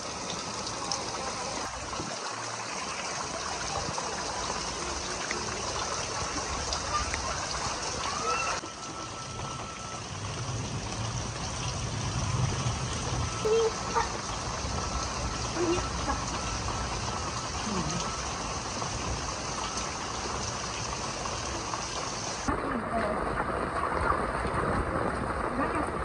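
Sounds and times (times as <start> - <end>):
heavy rain pouring: 0.0 - 26.0
rainwater running off roof: 0.0 - 26.0.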